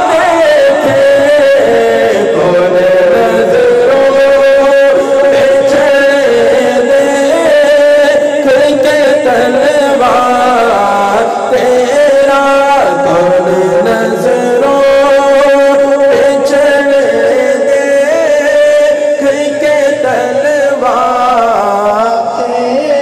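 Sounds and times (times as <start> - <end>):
man singing unaccompanied: 0.0 - 23.0.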